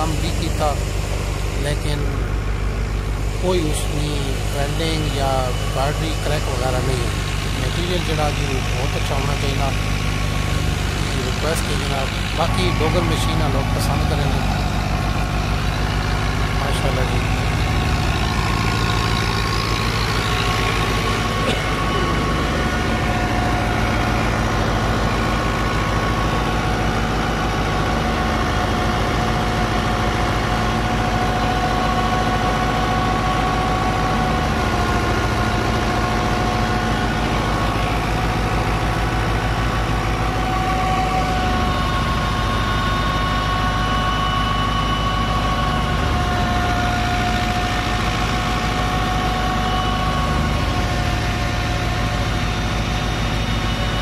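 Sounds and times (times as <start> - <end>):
thresher high whine: 0.0 - 54.0
tractor diesel engine running: 0.0 - 54.0.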